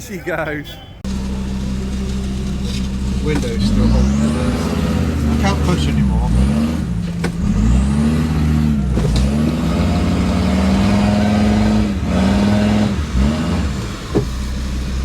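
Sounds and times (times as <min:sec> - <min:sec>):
off-road vehicle engine revving: 0:01.0 - 0:15.0.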